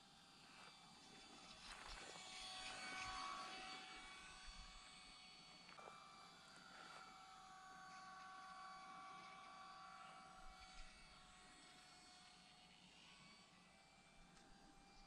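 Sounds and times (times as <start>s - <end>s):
model glider motor whine: 0.0s - 15.0s.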